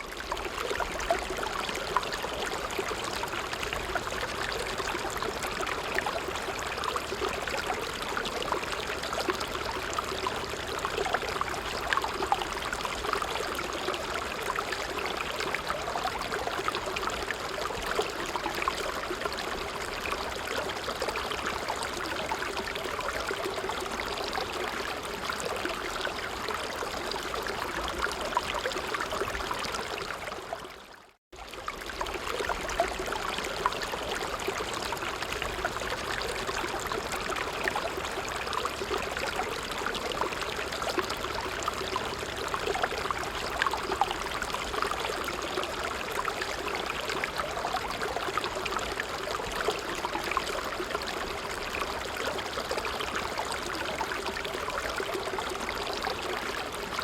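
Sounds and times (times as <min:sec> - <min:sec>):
creek water trickling and gurgling: 0:00.0 - 0:57.0.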